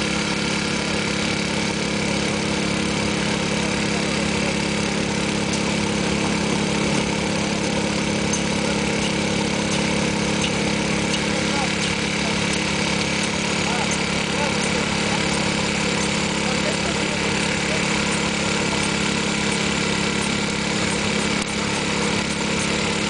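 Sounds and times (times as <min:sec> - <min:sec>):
small petrol engine running: 0:00.0 - 0:23.0.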